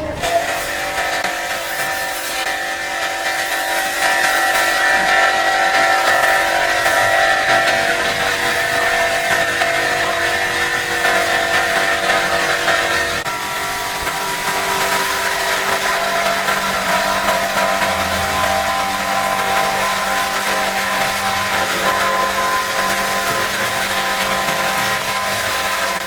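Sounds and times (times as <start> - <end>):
cleaning machine motor hum: 0.0 - 26.0.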